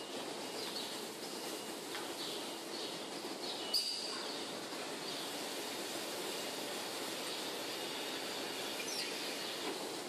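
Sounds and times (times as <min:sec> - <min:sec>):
milking machinery running: 0:00.0 - 0:10.0.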